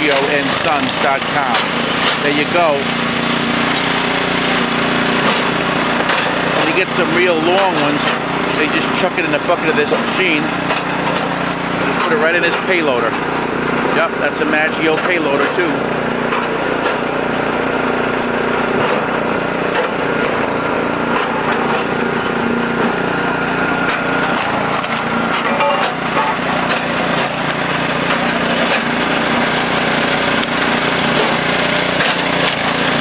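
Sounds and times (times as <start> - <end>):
wood splitter engine running: 0.0 - 33.0.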